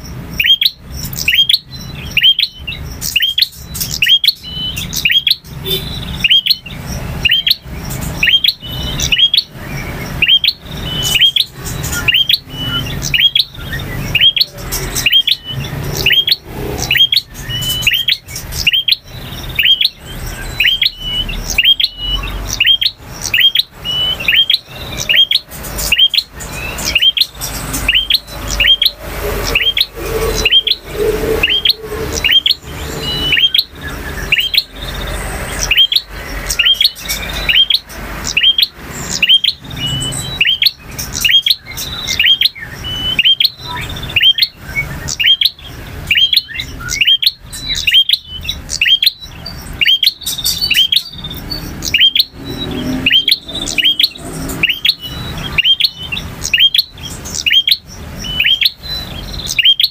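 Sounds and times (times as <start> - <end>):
bird chirping sharply: 0.0 - 59.9.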